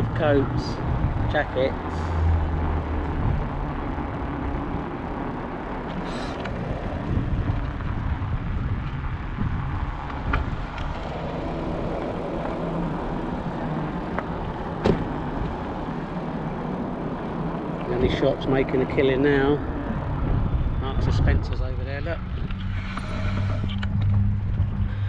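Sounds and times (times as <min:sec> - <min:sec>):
traffic: 0:00.0 - 0:25.0
wind and road noise: 0:00.0 - 0:25.0.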